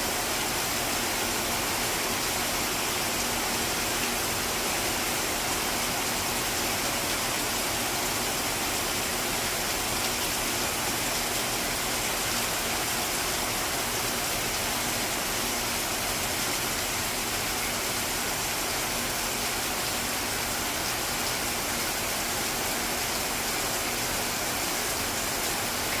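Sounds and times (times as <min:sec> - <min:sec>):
steady rainfall hiss: 0:00.0 - 0:26.0.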